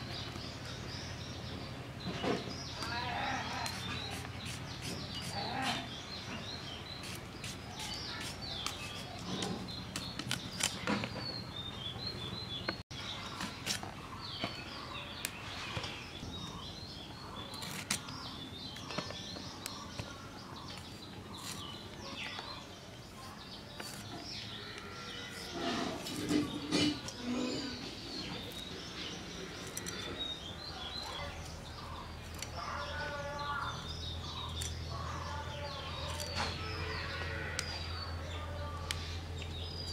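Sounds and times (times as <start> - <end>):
outdoor background noise: 0.0 - 39.9
small birds chirping: 0.0 - 39.9.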